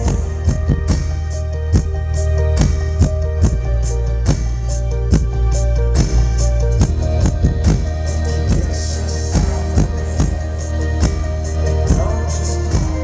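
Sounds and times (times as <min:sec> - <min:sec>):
live band playing: 0:00.0 - 0:13.0
steady drum beat: 0:00.0 - 0:13.0.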